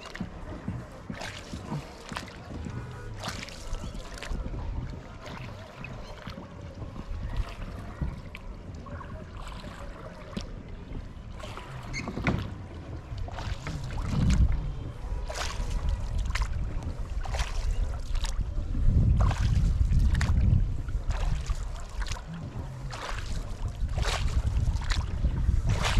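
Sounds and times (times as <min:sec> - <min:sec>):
paddle knocking against hull: 0:00.0 - 0:25.9
paddle splashing water: 0:00.0 - 0:25.9
wind rumble on microphone: 0:00.0 - 0:25.9.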